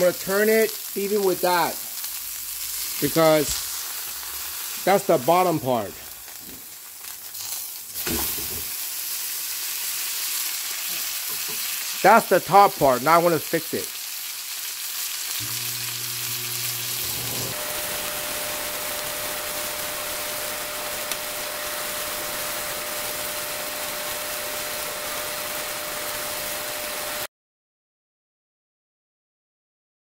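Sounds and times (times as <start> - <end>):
steak sizzling in frying pan: 0.0 - 27.3.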